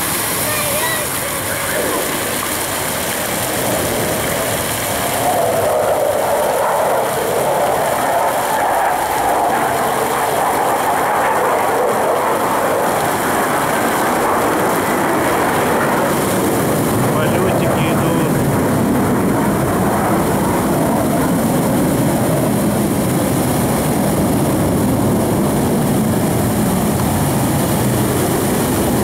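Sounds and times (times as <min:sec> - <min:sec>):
aircraft engines roaring: 0:00.0 - 0:29.0.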